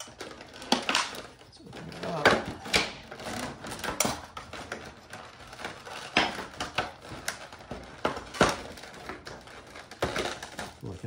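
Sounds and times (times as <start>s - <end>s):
plastic packaging clicks and crackles: 0.0s - 11.0s.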